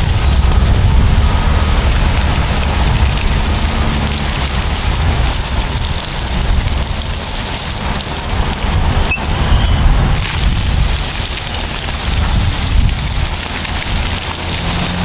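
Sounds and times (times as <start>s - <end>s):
bulldozer diesel engines rumbling: 0.0s - 15.0s
crackling of scrub torn down: 0.0s - 15.0s.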